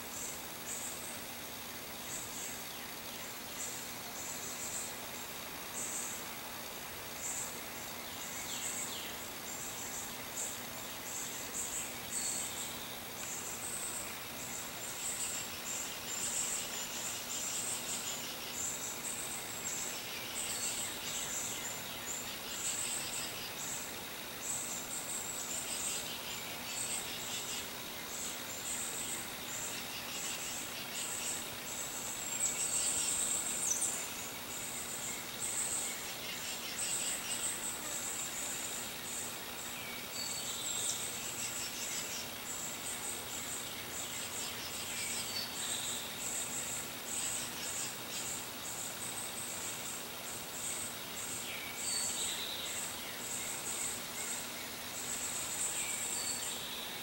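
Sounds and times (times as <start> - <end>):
insect trill: 0.0 - 57.0
insects chirping: 0.0 - 57.0.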